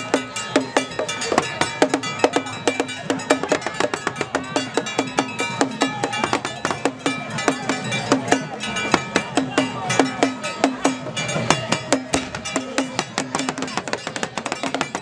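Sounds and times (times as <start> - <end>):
drums beaten in fast rhythm: 0.0 - 15.0
ringing tones: 0.0 - 15.0.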